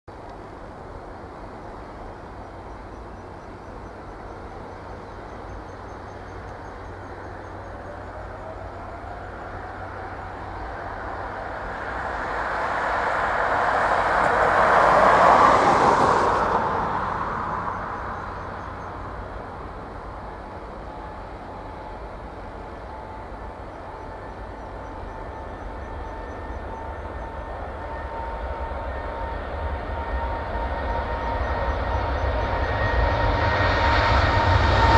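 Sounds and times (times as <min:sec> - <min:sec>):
faint steady whine: 0:00.1 - 0:34.9
jet engines at takeoff power: 0:00.1 - 0:34.9.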